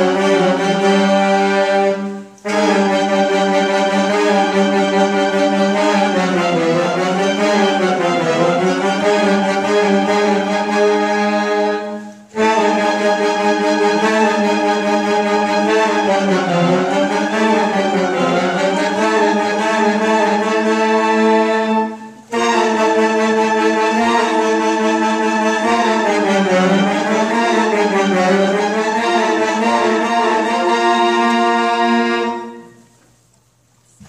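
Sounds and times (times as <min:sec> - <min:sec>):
saxophone ensemble chords: 0:00.0 - 0:33.0.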